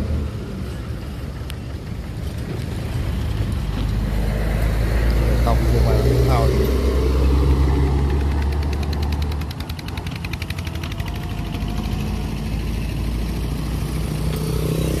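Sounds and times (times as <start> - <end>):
car engines passing: 0.0 - 15.0
heavy vehicle engine rumble: 0.0 - 15.0
motorcycle engine approaching: 0.0 - 15.0.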